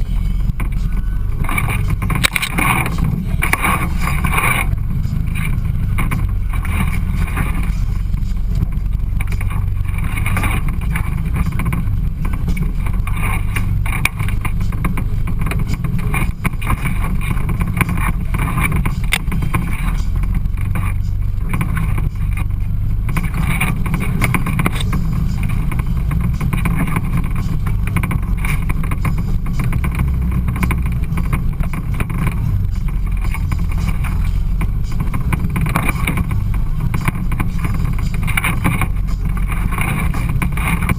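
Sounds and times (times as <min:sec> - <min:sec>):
off-road vehicle engine rumble: 0:00.0 - 0:40.9.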